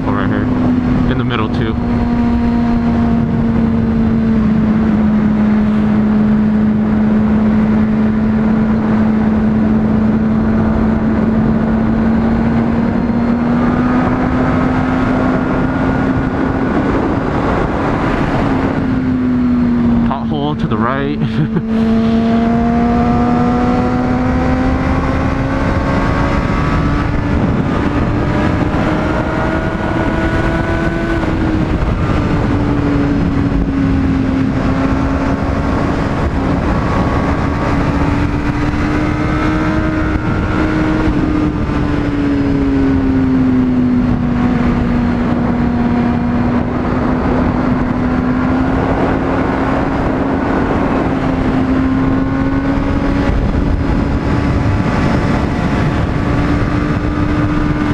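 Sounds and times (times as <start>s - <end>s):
motorcycle engine running: 0.0s - 57.9s
wind noise: 0.0s - 57.9s.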